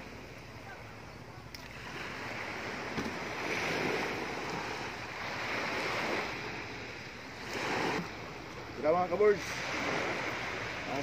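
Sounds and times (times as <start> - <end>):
waves washing onto pebbly shore: 1.6 - 11.0.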